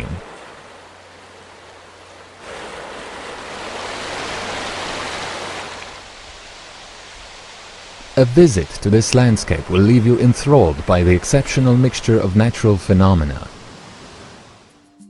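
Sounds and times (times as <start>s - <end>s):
rushing river water: 0.0s - 14.8s.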